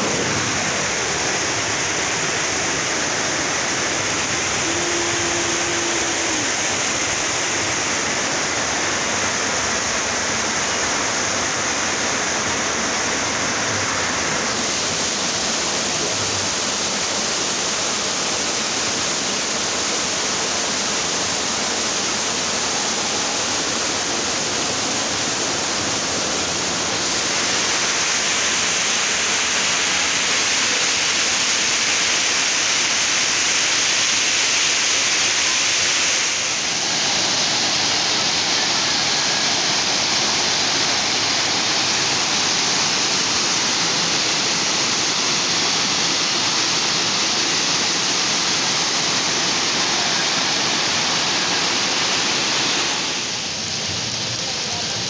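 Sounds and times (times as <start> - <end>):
waterfall rushing into pool: 0.0 - 55.0.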